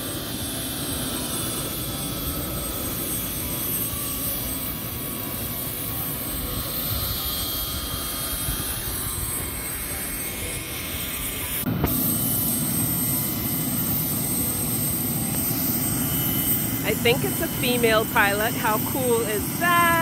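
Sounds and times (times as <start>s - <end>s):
helicopter turbine engine running: 0.0s - 20.0s.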